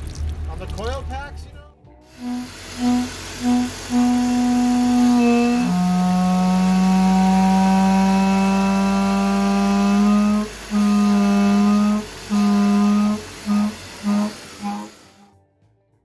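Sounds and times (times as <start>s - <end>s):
honking tone from engine oil cap: 2.1s - 15.1s.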